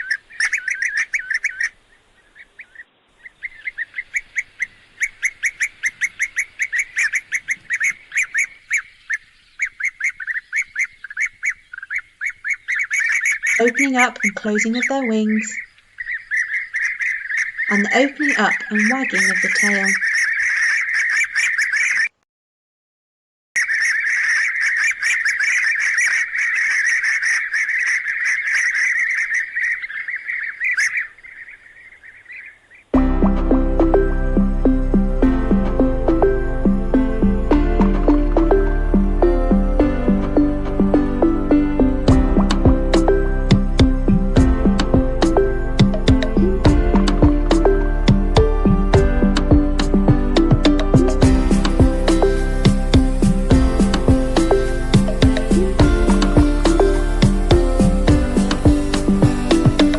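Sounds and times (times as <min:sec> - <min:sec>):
birds chirping calls: 0:00.0 - 0:22.2, 0:23.6 - 0:59.9.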